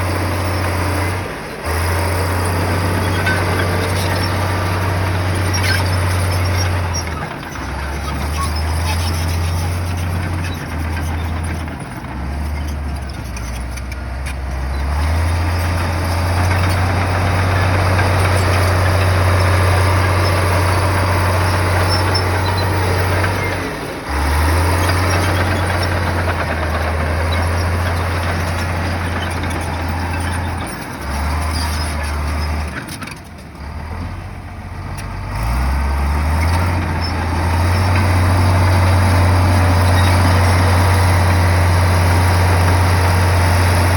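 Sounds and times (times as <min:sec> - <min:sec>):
bulldozer diesel engine under load: 0:00.0 - 0:43.9
rough mechanical noise: 0:00.0 - 0:43.9.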